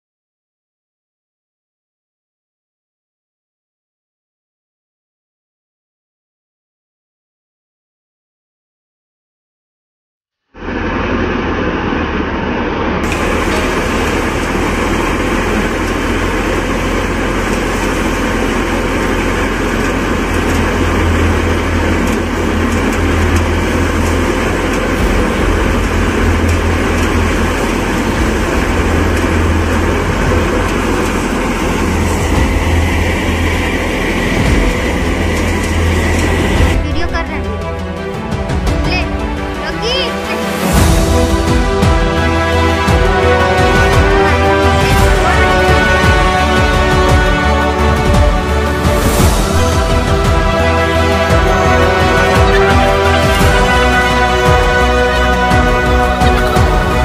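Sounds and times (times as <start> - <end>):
straw and grain rushing: 10.6 - 57.0
thresher mechanical drone: 10.6 - 57.0.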